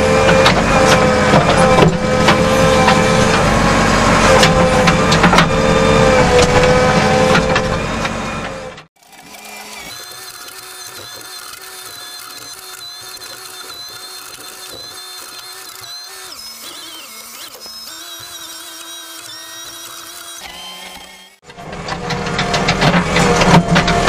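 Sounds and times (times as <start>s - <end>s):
backhoe engine and hydraulics whine: 0.0s - 24.0s.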